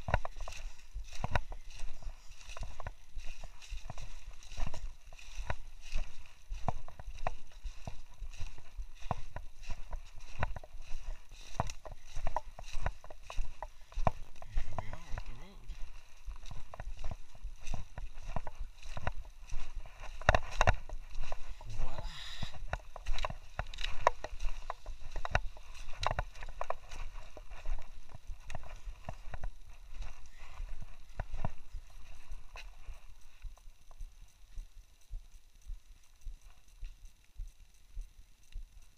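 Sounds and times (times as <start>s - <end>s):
footsteps on rocky dirt trail: 0.0s - 38.9s
steady rustle: 0.0s - 38.9s.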